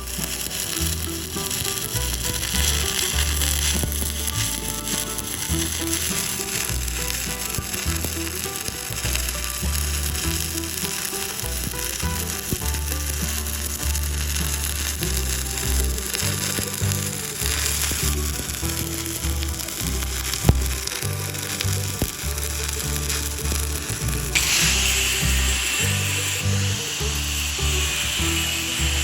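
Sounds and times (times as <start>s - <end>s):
background music with bass line: 0.0s - 29.0s
welding arc crackling: 0.0s - 29.0s.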